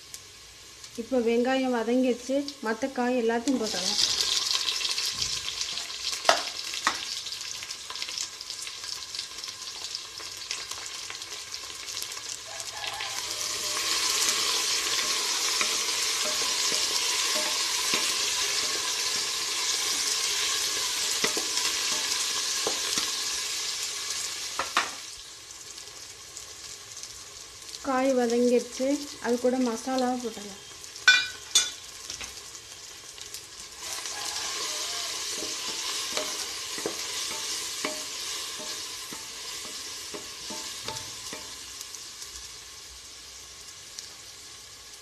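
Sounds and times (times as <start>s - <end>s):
vegetables sizzling in oil: 0.0s - 45.0s.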